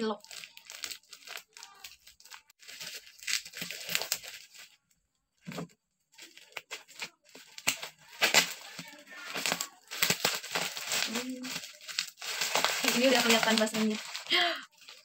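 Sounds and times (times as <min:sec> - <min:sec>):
plastic crinkling and tearing: 0:00.0 - 0:15.0
scissors cutting plastic: 0:00.4 - 0:04.6, 0:06.2 - 0:15.0.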